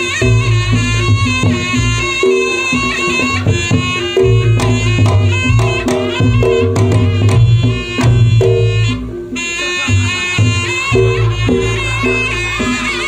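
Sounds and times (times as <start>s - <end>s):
fast hand drumming: 0.0s - 13.0s
piercing shawm melody: 0.0s - 13.0s.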